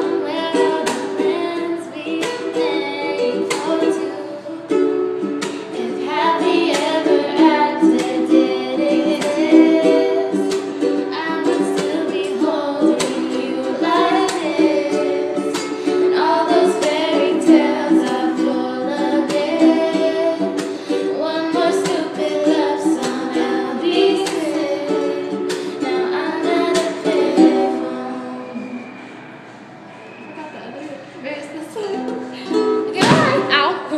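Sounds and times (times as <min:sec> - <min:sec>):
person singing: 0:00.0 - 0:29.2
strummed acoustic guitar: 0:00.0 - 0:33.7.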